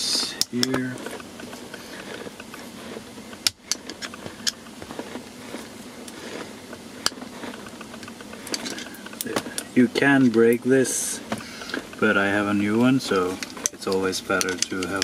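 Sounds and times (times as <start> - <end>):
metal tool scraping plastic: 0.0 - 15.0.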